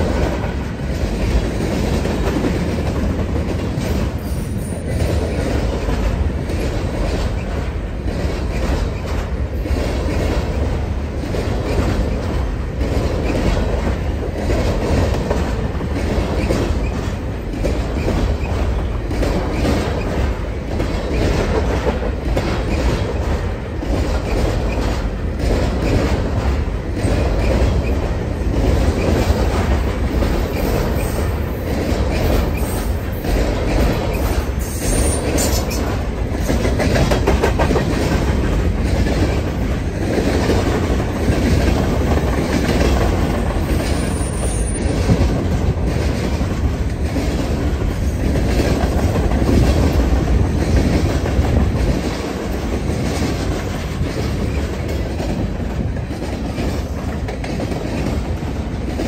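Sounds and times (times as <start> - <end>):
train cars rolling past: 0.0 - 59.0
wheels clacking over rail joints: 0.0 - 59.0.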